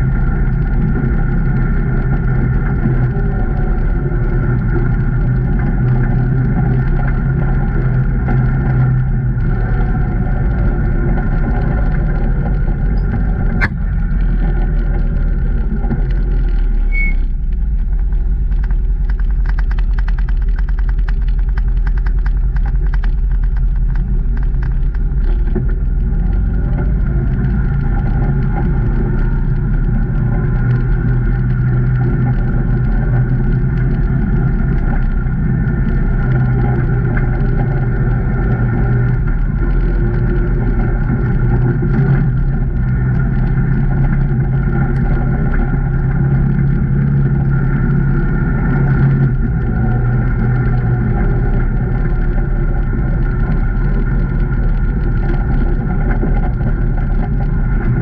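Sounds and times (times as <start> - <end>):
rapid clicking: 0.0 - 58.0
vehicle engine running: 0.0 - 58.0.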